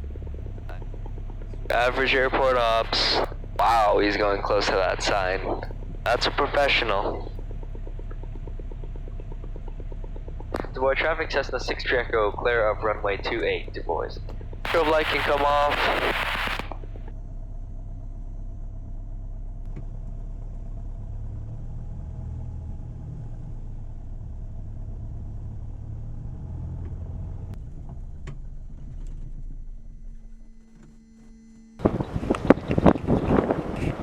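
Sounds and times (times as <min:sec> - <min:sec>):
airplane piston engine drone: 0:00.0 - 0:34.0.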